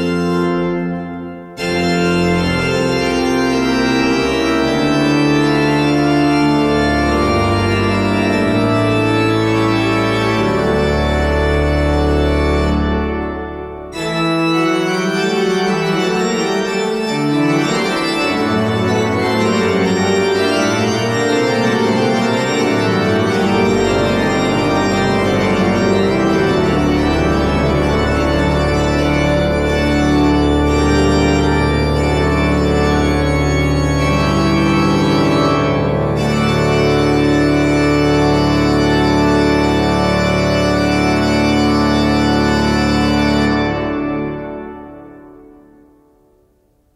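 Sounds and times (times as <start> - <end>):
deep organ pedal bass notes: 0.0 - 46.1
pipe organ chords: 0.0 - 46.7.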